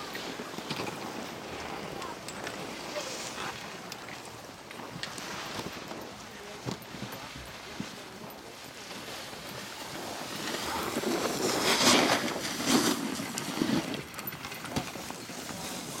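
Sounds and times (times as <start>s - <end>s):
snowboard edge scraping snow: 0.0s - 3.8s, 5.1s - 14.1s, 14.7s - 16.0s.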